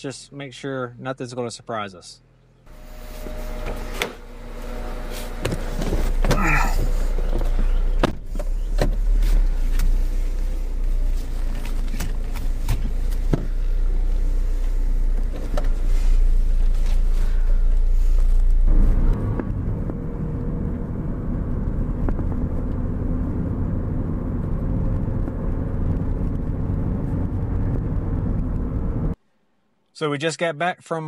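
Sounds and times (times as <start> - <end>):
car engine idling: 2.2 - 29.2.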